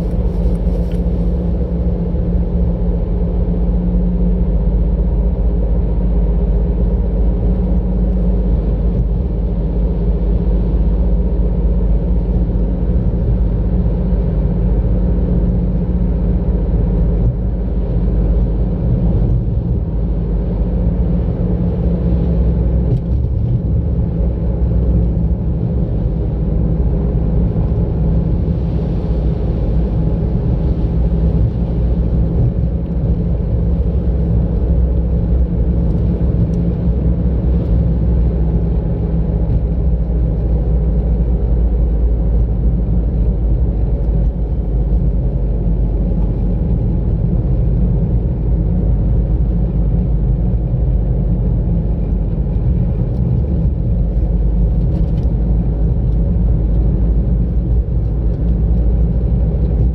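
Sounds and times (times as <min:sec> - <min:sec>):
car engine rumble: 0:00.0 - 0:59.9
tyre road noise: 0:00.0 - 0:59.9.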